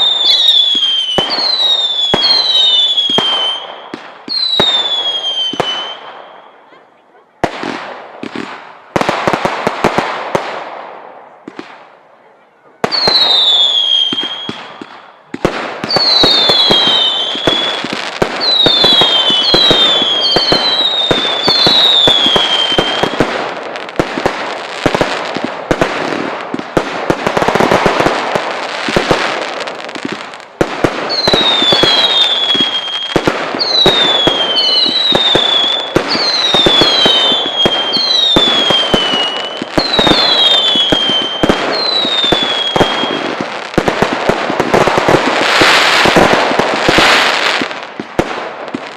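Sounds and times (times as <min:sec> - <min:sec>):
firework bangs and crackling: 0:00.0 - 0:48.9
whistling fireworks: 0:00.0 - 0:48.9.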